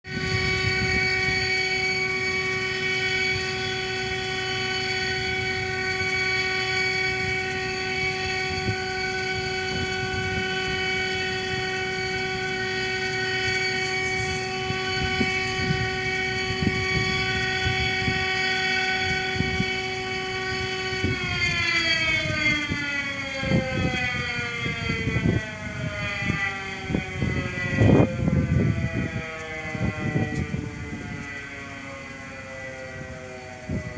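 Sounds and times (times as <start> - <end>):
civil defense siren: 0.0 - 33.9.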